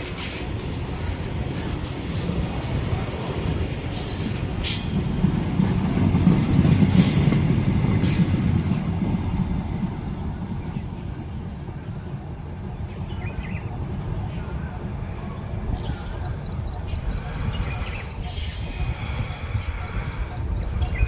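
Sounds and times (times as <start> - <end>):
low rumble of train wheels: 0.0 - 21.0.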